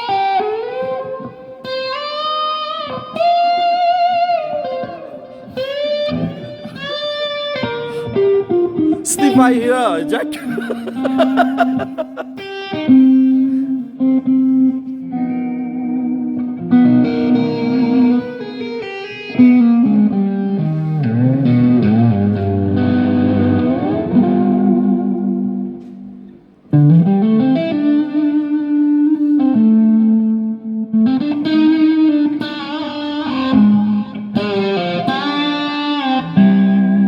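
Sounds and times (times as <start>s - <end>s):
electric guitar lead line: 0.0s - 26.0s, 26.7s - 37.0s.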